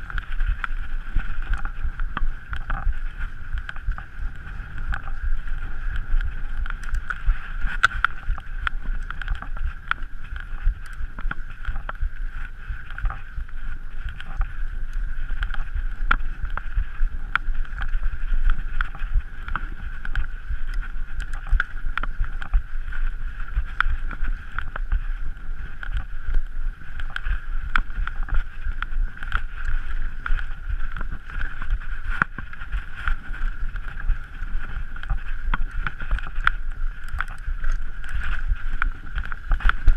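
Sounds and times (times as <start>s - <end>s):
bike clicks and rattles: 0.0s - 39.9s
wind rushing on microphone: 0.0s - 39.9s.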